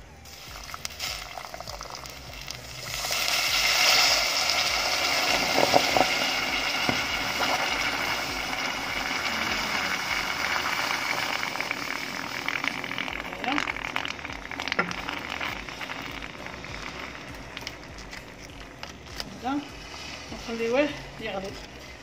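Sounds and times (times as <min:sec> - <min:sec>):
water pouring into a saucepan: 0:00.3 - 0:18.1.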